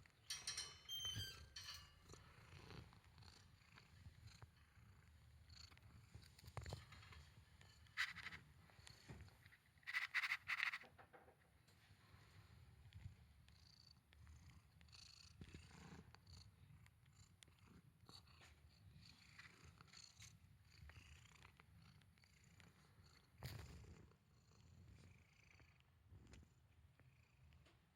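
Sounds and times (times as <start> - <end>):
cat purring: 2.0 - 27.9.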